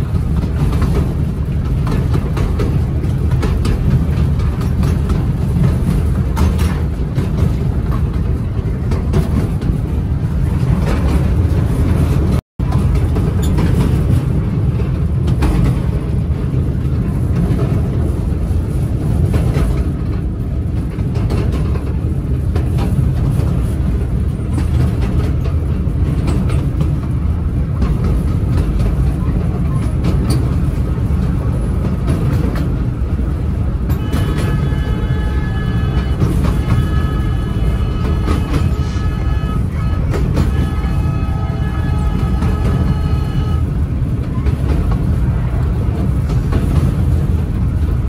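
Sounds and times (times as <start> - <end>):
train rumbling on track: 0.0 - 48.0
wheels clicking on rails: 0.0 - 48.0.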